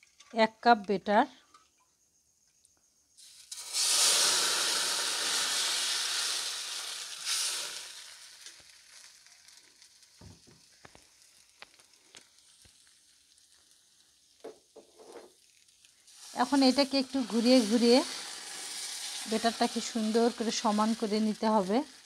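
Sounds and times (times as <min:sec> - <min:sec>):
batter sizzling in frying pan: 0:03.1 - 0:22.0.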